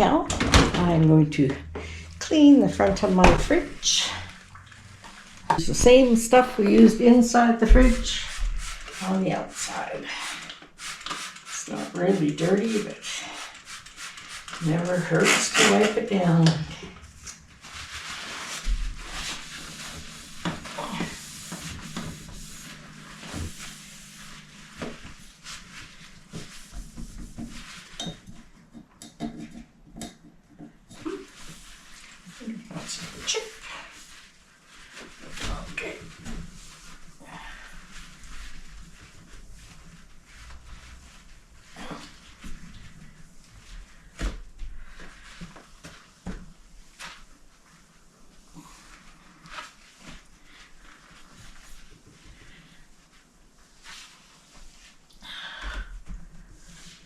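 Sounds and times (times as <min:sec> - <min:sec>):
cloth wiping refrigerator: 0:02.2 - 0:28.6, 0:31.1 - 0:57.0.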